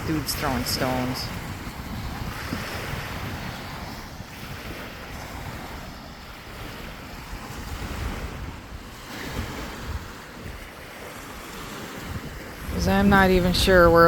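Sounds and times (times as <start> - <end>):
waves washing onto shore: 0.0 - 14.0
wind rumbling on microphone: 0.0 - 14.0.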